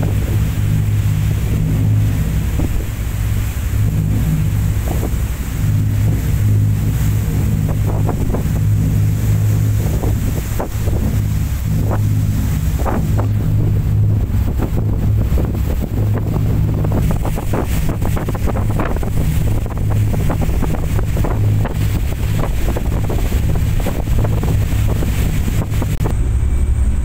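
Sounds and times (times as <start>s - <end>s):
ferry engine drone: 0.0s - 27.0s
rush of water wake: 0.0s - 27.0s
wind buffeting microphone: 0.0s - 27.0s.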